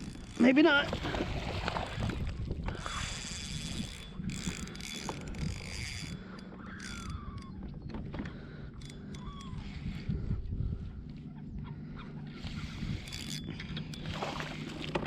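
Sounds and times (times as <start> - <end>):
fishing reel whirring and clicking: 0.0 - 10.9, 12.3 - 15.0.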